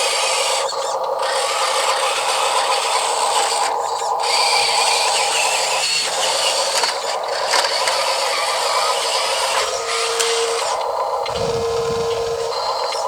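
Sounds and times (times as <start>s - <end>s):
toy truck electric motors: 0.0s - 13.0s.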